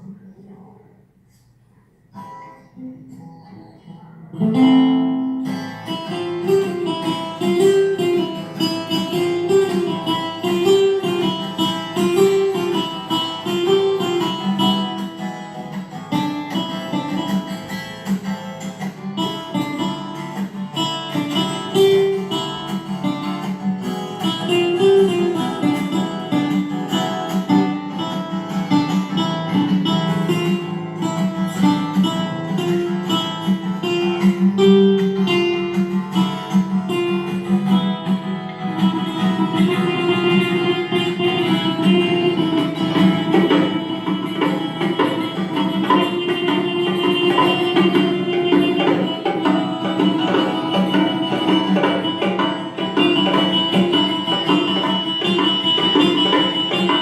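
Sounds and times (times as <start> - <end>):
acoustic guitar strumming: 1.8 - 57.0.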